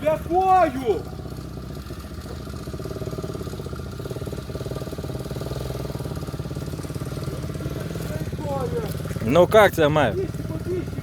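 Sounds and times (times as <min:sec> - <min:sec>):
engine running at low speed: 0:00.0 - 0:11.0.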